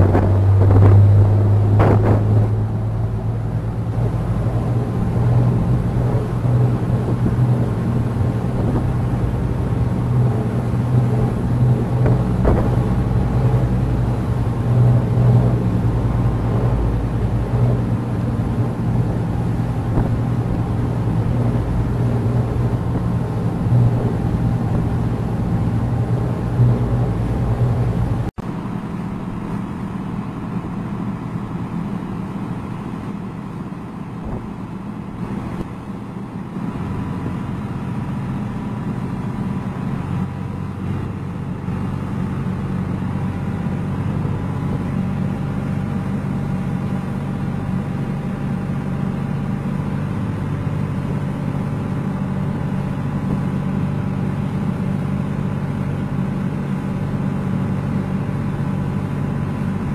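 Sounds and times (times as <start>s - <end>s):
boat diesel engines running: 0.0s - 59.9s
rushing water: 0.0s - 59.9s
wind: 0.0s - 59.9s.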